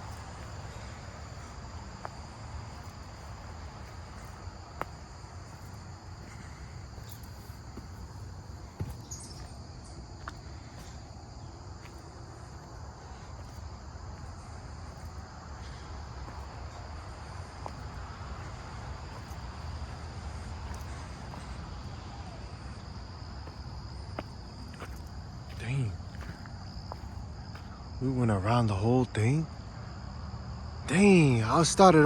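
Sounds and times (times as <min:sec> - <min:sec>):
footsteps walking: 0:00.0 - 0:27.8
insects droning: 0:00.0 - 0:32.0.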